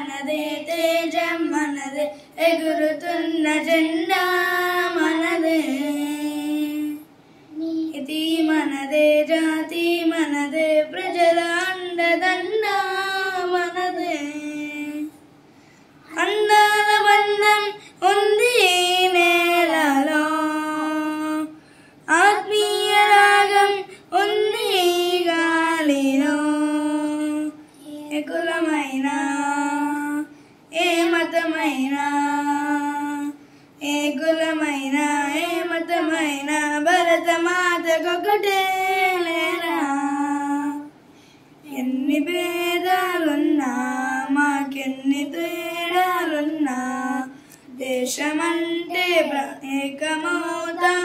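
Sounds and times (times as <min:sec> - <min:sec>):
boys singing unaccompanied: 0:00.0 - 0:07.1, 0:07.9 - 0:15.2, 0:16.1 - 0:40.9, 0:41.7 - 0:51.0.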